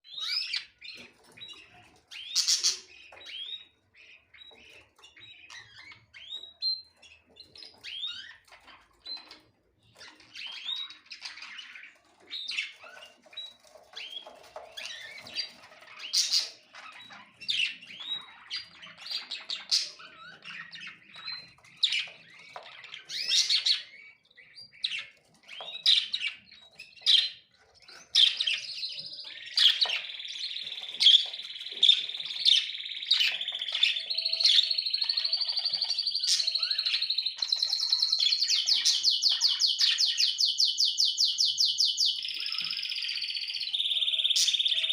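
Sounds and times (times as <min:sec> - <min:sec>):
small songbirds chirping: 0:00.0 - 0:44.9.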